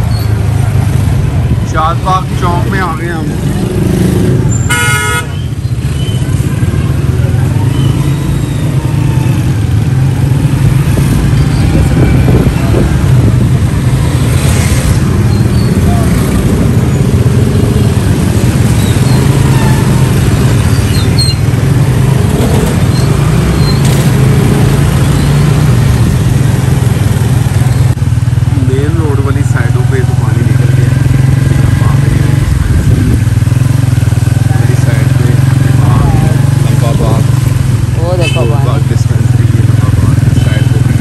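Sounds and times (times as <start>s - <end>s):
motorcycle engine running: 0.0s - 41.0s
nearby traffic engines: 0.0s - 41.0s.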